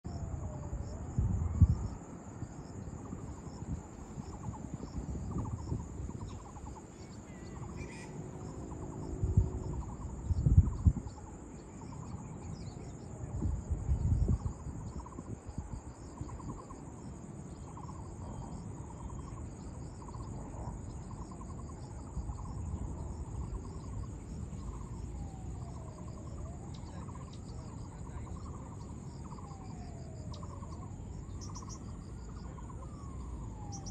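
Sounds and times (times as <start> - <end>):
wind rumble on microphone: 0.0 - 33.9
insects chirring: 0.1 - 33.9.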